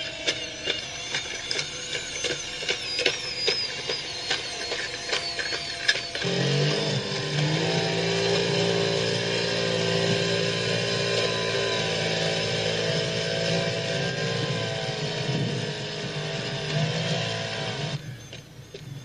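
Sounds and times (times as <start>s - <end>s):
robot power unit droning: 0.0s - 19.0s.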